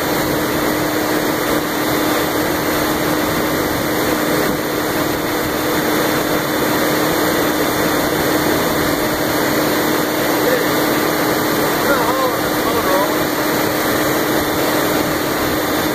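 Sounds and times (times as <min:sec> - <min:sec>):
electric motor humming: 0:00.0 - 0:15.9.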